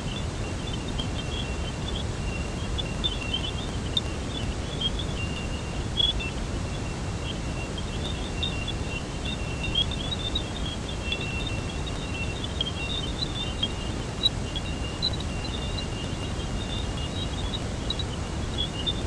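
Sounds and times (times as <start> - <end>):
rumbling hiss: 0.0 - 19.0.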